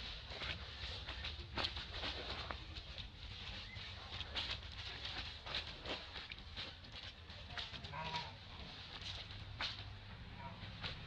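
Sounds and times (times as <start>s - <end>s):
dry leaves crackling underfoot: 0.0s - 11.0s.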